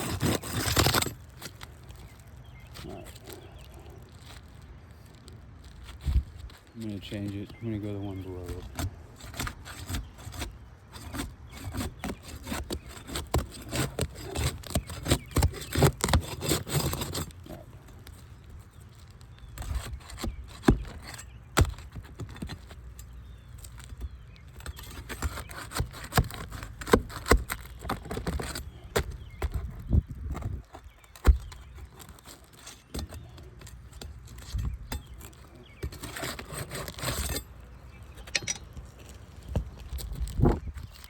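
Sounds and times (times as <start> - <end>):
roof shingles scraping and crackling: 0.0 - 41.0.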